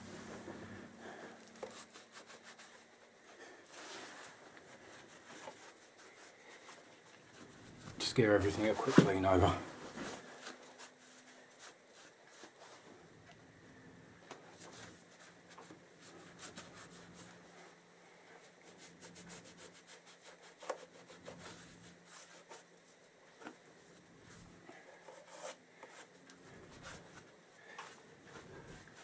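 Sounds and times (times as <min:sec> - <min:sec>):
faint rubbing and wiping: 0:00.0 - 0:13.0, 0:13.8 - 0:29.0.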